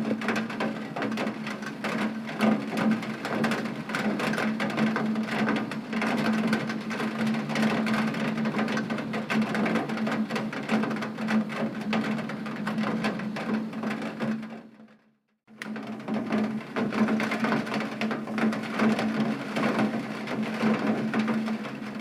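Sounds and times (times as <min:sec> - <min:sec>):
rain pattering on a window: 0:00.0 - 0:14.8, 0:15.5 - 0:22.0.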